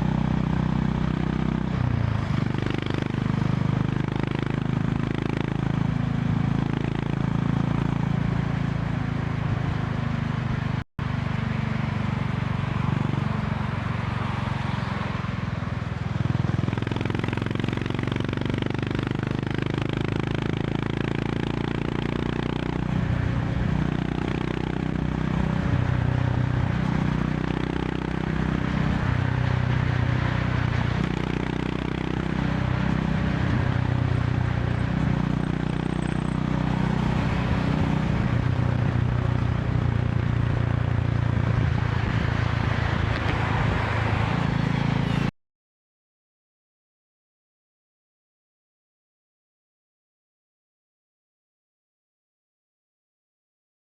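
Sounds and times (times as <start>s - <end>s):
motorcycle engine running: 0.0s - 45.3s
wind and road noise: 0.0s - 45.3s.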